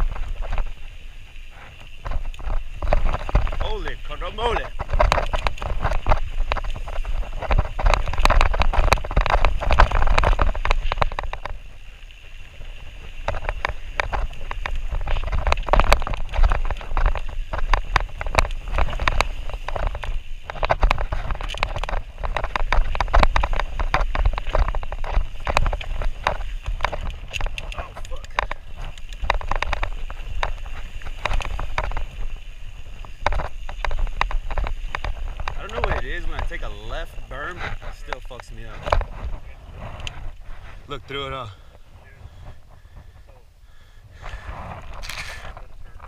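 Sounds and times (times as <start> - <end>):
bike rattling over rocks: 0.0 - 46.0
tyres on loose dirt: 0.0 - 46.0
wind rumbling on microphone: 0.0 - 46.0.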